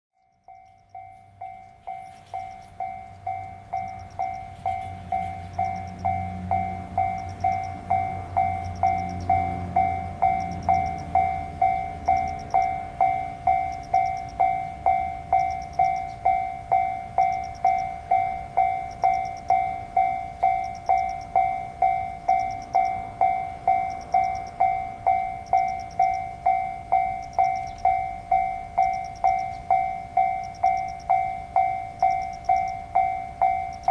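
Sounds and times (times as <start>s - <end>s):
level crossing warning bell: 0.1s - 33.9s
low rumble: 0.8s - 33.9s.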